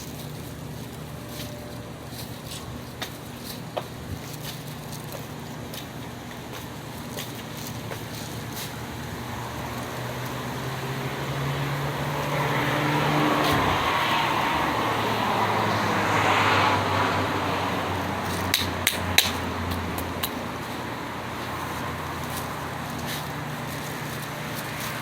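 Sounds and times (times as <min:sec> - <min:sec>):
road vehicle passing by: 0:00.0 - 0:25.0.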